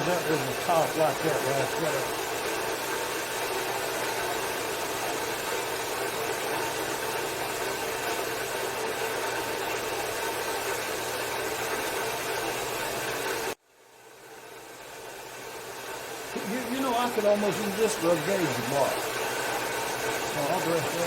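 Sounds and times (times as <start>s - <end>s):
machine whirring with motor hum: 0.0s - 21.0s.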